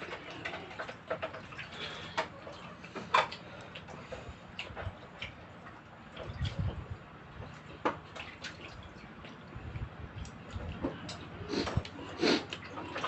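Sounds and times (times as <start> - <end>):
chewing and slurping: 0.0 - 13.0.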